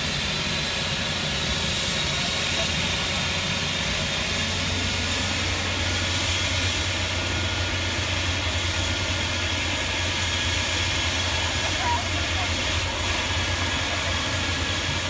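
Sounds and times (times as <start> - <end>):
helicopter rotor drone: 0.0 - 15.0
high turbine whine: 0.0 - 15.0.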